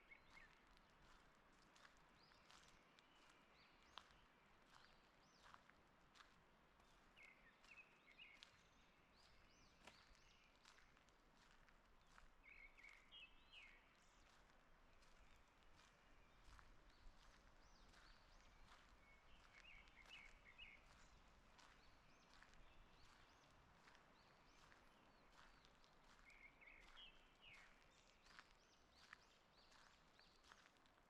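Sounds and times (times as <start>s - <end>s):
faint songbirds chirping: 0.0s - 31.0s.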